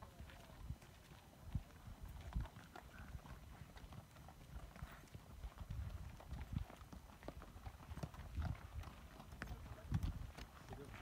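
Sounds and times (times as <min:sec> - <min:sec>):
mule hooves clopping on dirt: 0:00.0 - 0:11.0.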